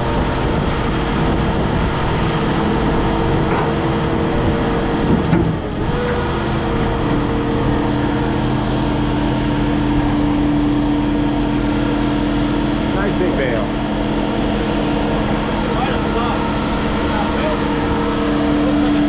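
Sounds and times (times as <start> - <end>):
baler machine drone with whine: 0.0 - 19.0.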